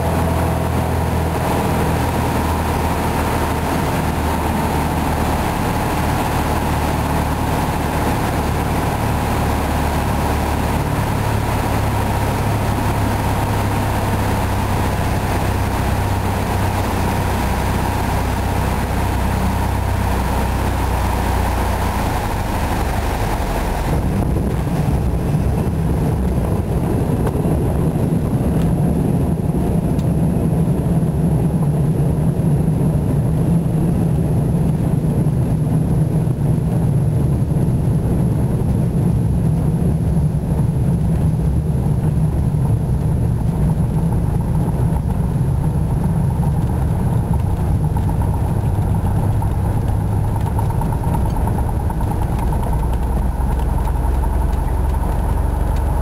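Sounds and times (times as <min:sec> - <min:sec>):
plane engine droning in cabin: 0:00.0 - 0:56.0
wheels rumbling on gravel: 0:00.0 - 0:56.0.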